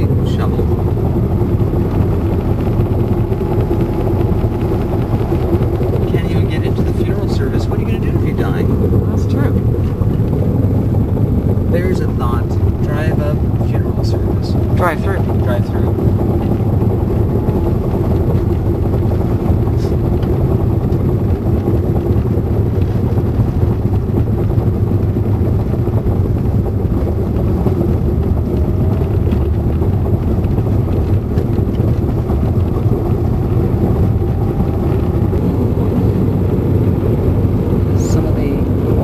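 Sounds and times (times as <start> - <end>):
car engine and tyre rumble: 0.0 - 39.0.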